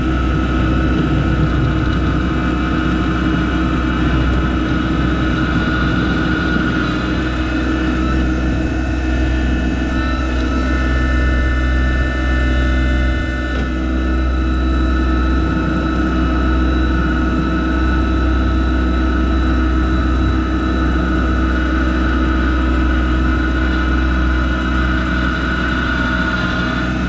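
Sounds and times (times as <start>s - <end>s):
high whine: 0.0s - 27.0s
tractor diesel engine running: 0.0s - 27.0s.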